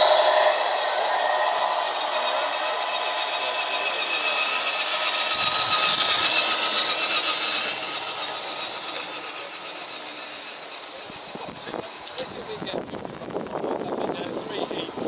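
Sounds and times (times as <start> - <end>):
model truck drivetrain whine: 0.0 - 15.0.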